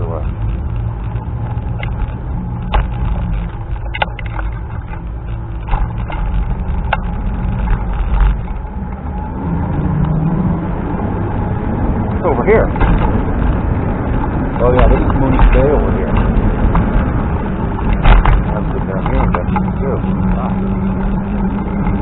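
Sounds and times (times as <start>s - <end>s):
sharp knocks and rattles: 0.0s - 9.0s, 12.6s - 22.0s
faint steady whine: 0.0s - 22.0s
scooter rumble: 0.0s - 22.0s
wind buffeting microphone: 0.0s - 22.0s.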